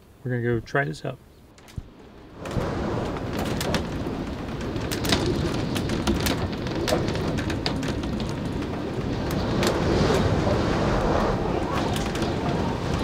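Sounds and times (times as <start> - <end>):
strong wind buffeting a vehicle: 1.7 - 13.0.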